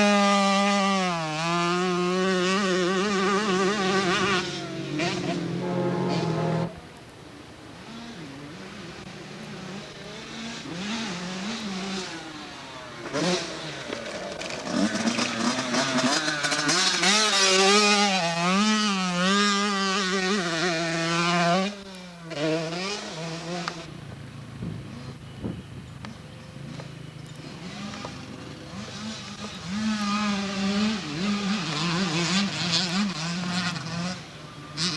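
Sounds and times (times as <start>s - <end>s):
dirt bike engine revving: 0.0s - 6.8s, 7.8s - 34.9s.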